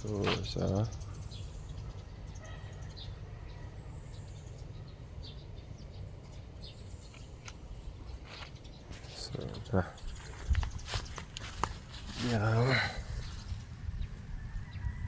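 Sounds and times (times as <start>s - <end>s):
faint bird chirps: 0.0s - 14.0s
low steady background rumble: 0.0s - 15.0s.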